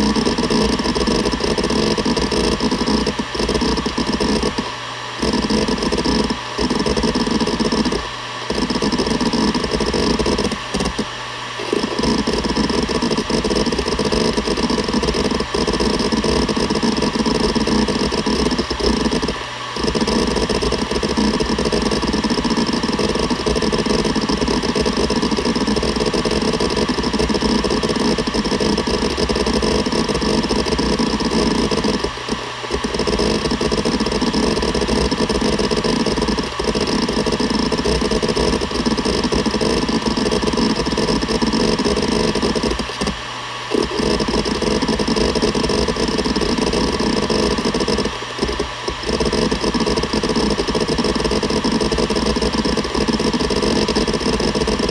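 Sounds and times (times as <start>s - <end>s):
hard drive platters humming: 0.0s - 54.9s
hard drive seeking chatter: 0.0s - 54.9s.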